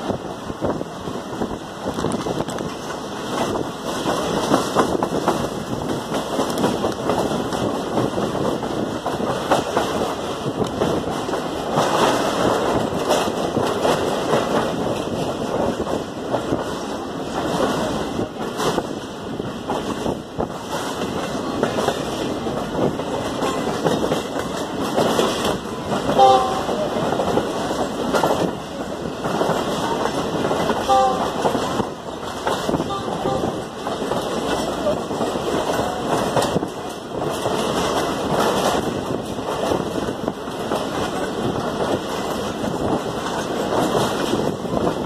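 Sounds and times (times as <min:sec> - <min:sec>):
train wheels rumbling and rattling: 0:00.0 - 0:45.0
wind: 0:00.0 - 0:45.0.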